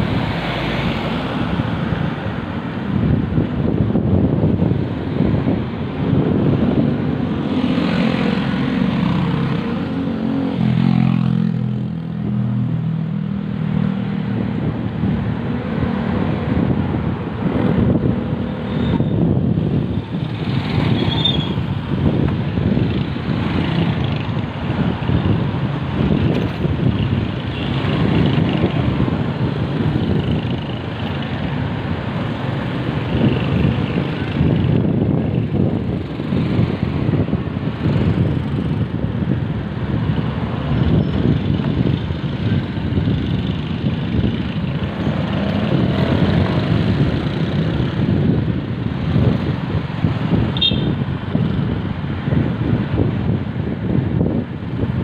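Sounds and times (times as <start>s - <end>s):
street traffic noise: 0.0s - 55.0s
vehicle engine humming: 0.0s - 55.0s
wind buffeting microphone: 0.0s - 55.0s.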